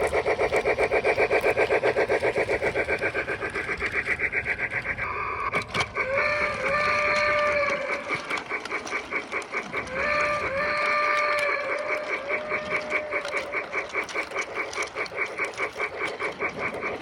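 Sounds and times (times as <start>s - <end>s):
rapid pulsing train sound: 0.0s - 17.0s.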